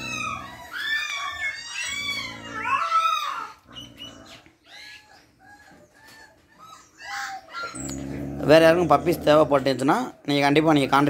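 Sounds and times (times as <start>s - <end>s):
puppies squeaking and whining: 0.0s - 10.8s.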